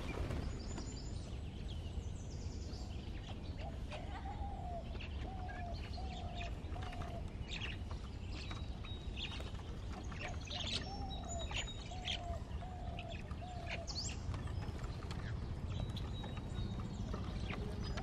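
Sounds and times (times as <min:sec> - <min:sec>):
birds chirping and chattering: 0:00.0 - 0:18.0.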